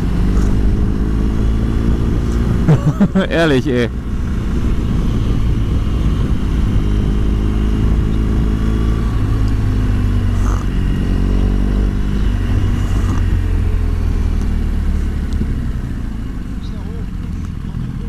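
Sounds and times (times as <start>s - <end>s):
wind rumble on microphone: 0.0s - 17.8s
motorcycle engine running: 0.0s - 18.0s.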